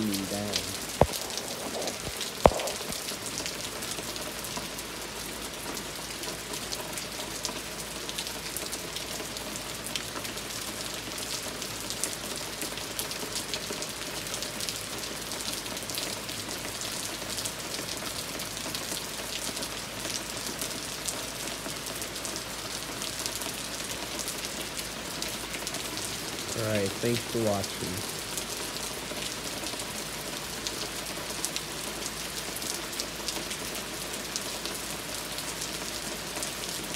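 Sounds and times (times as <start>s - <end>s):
rain on wooden deck: 0.0s - 36.9s.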